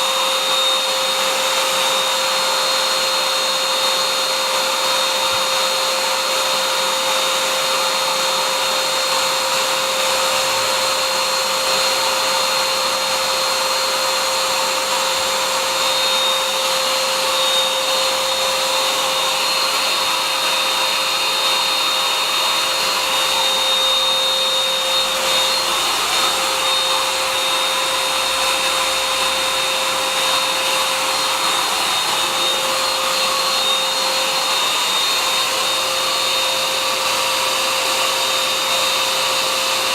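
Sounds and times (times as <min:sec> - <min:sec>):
motor whine: 0:00.0 - 0:38.8
electric air pump blower rush: 0:00.0 - 0:39.9.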